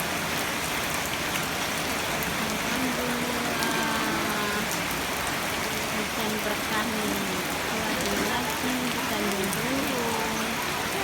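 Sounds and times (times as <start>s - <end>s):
rain downpour: 0.0s - 11.0s.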